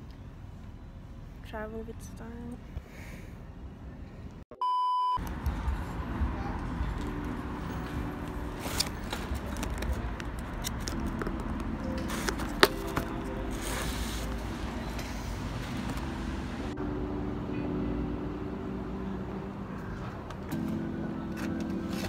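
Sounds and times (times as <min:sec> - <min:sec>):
street traffic rumbling: 0:00.0 - 0:04.4, 0:05.2 - 0:22.0.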